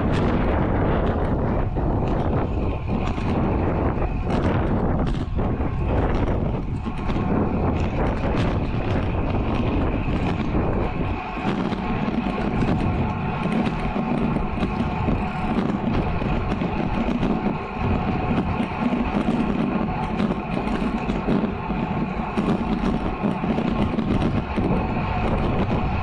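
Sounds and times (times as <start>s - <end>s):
bike tyres rolling on asphalt: 0.0s - 26.0s
wind rushing over microphone: 0.0s - 26.0s.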